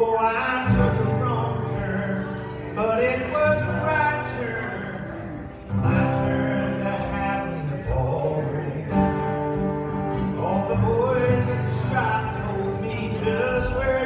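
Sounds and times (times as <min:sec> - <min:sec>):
man singing into a microphone: 0:00.0 - 0:09.4, 0:10.1 - 0:14.0
acoustic guitar: 0:00.0 - 0:14.0.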